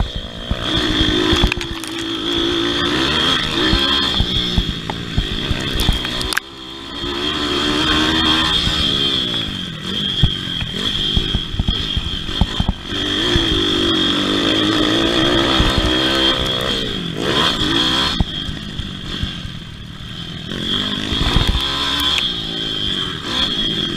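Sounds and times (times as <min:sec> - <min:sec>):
motorbike engine revving: 0:00.0 - 0:23.9
steady high whine: 0:00.0 - 0:23.9.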